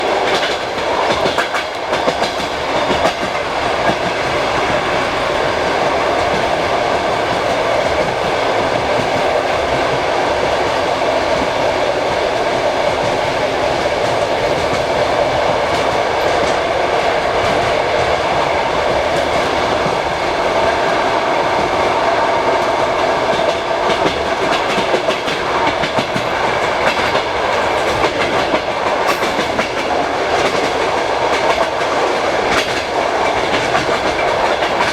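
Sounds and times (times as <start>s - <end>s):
train wheels clickety-clack on rails: 0.0s - 34.9s.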